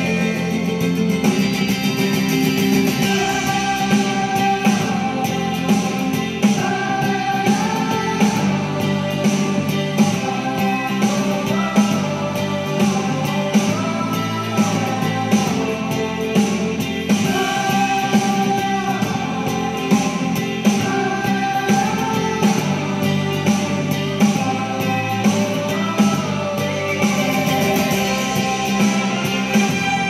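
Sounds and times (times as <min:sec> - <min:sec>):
instrumental music with beat: 0:00.0 - 0:30.0.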